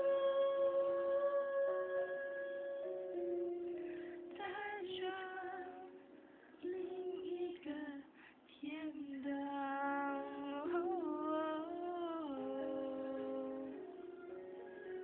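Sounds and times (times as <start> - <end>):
woman singing a slow ballad: 0.0 - 14.0
soft music: 0.0 - 15.0.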